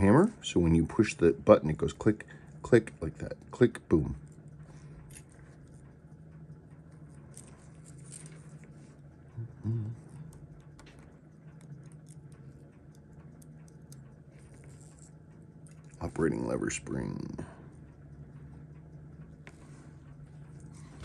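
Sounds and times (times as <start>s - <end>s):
low hum: 0.0s - 21.0s
tweezers clicking on watch movement: 1.8s - 9.2s, 10.0s - 21.0s.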